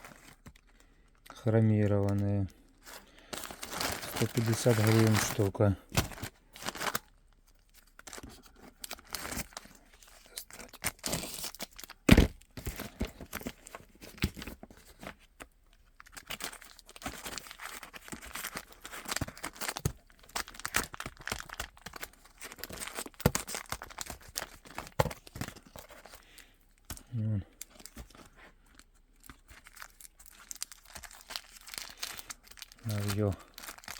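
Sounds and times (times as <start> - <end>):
crinkly rustling: 0.0 - 33.9.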